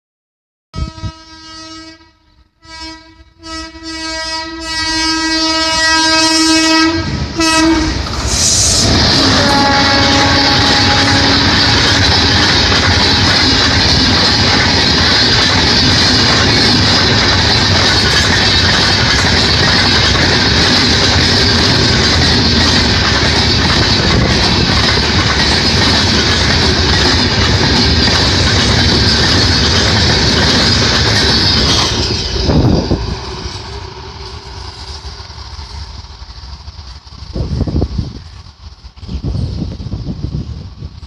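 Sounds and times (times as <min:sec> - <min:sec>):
train wheels rattling on rails: 0:05.6 - 0:41.0.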